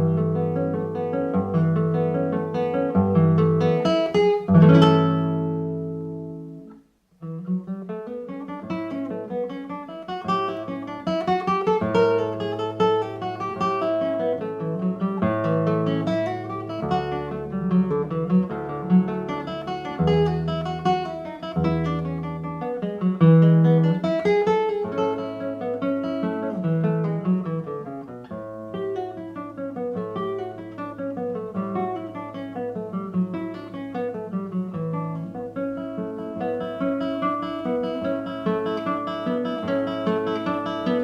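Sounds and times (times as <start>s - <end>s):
acoustic guitar music: 0.0s - 41.0s.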